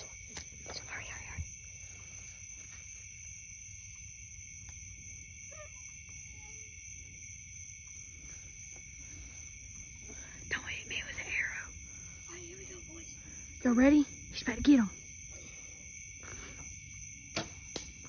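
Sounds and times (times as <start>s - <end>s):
night insects chorus: 0.0s - 18.0s.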